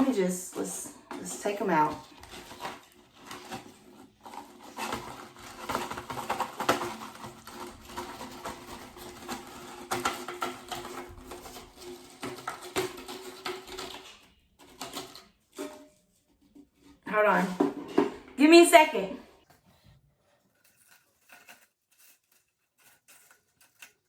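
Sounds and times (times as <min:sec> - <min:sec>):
chips can crinkling and rustling: 0:00.0 - 0:16.1, 0:20.5 - 0:24.0.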